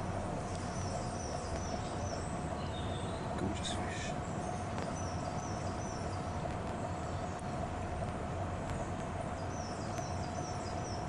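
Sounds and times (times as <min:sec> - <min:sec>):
small bird chirping: 0:00.0 - 0:11.0
steady hum: 0:00.0 - 0:11.0.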